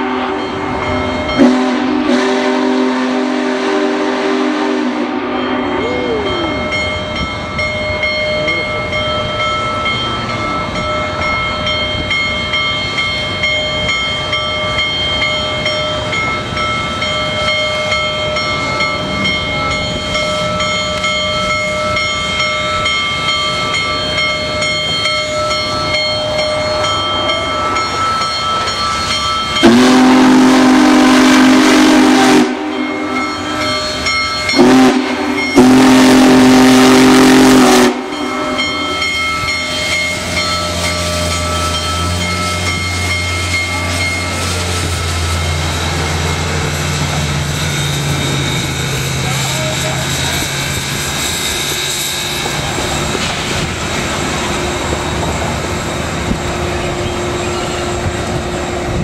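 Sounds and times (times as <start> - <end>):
steam chime whistle blasts: 0.0 - 7.7, 11.8 - 59.0
steam locomotive hissing: 0.0 - 59.0.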